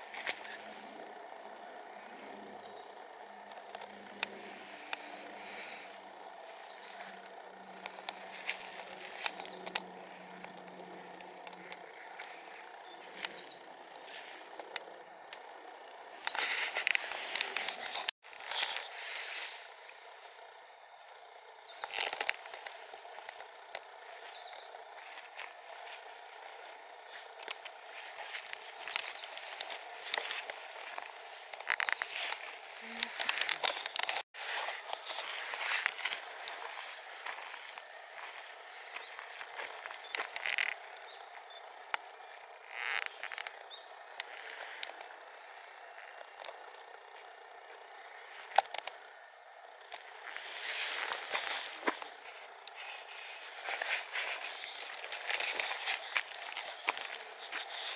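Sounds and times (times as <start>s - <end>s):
outdoor background hiss: 0.0s - 57.9s
leaves rustling and crackling: 3.3s - 20.2s, 21.8s - 43.4s, 49.8s - 57.9s.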